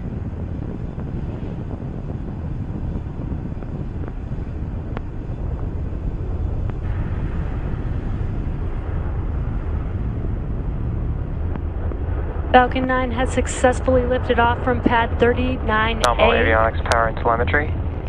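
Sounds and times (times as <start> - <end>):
rocket engines rumbling: 0.0 - 18.0.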